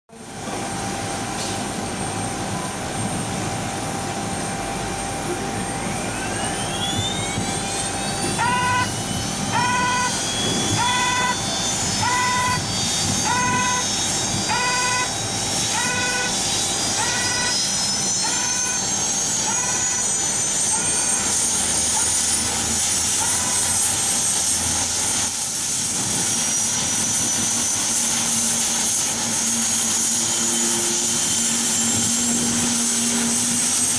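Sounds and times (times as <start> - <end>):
turboprop engine whine rising: 0.1 - 33.9.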